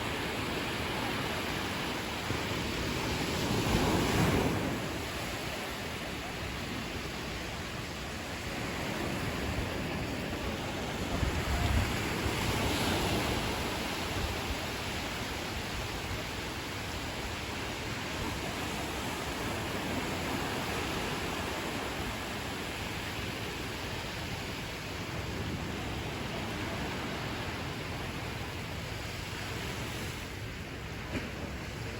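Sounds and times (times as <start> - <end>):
ocean surf washing onto beach: 0.0 - 31.9
wind rumble on microphone: 0.0 - 31.9.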